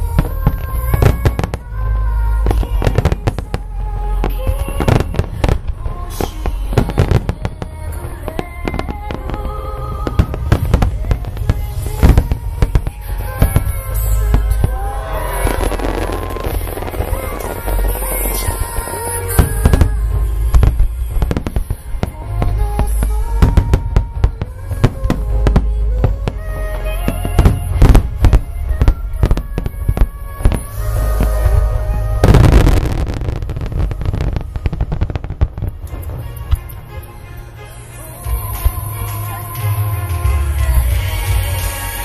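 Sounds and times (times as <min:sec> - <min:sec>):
music playing: 0:00.0 - 0:42.0.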